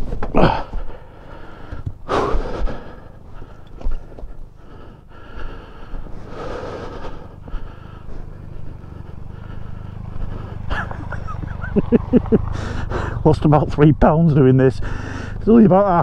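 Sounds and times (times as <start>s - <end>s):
low rumble: 0.0s - 16.0s
person breathing heavily: 0.4s - 13.3s, 14.6s - 15.5s.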